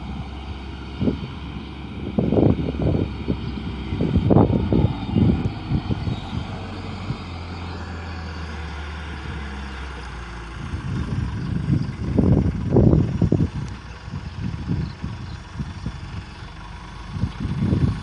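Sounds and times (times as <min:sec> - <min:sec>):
diesel engine running: 0:00.0 - 0:18.0
wind buffeting microphone: 0:00.0 - 0:18.0.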